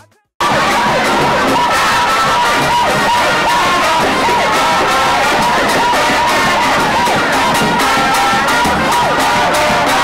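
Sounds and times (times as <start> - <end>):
music playing: 0.0 - 10.0
crowd cheering and singing along: 0.4 - 10.0.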